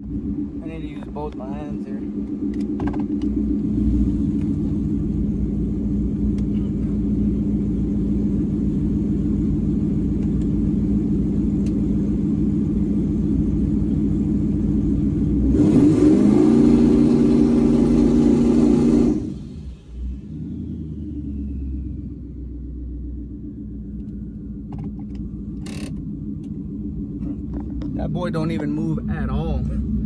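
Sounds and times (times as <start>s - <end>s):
car engine at high idle: 0.0s - 30.0s.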